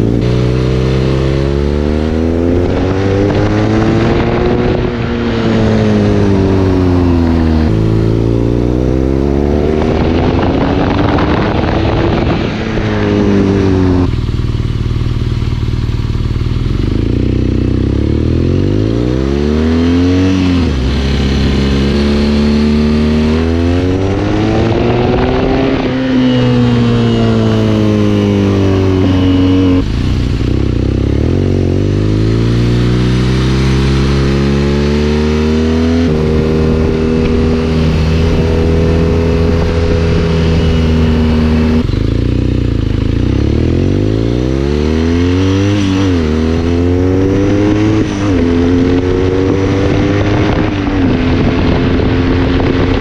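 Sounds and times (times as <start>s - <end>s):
motorcycle engine revving while riding: 0.0s - 53.0s.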